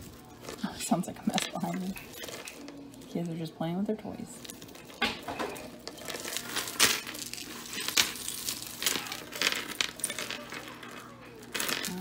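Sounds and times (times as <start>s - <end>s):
jewelry clinking: 0.0s - 12.0s.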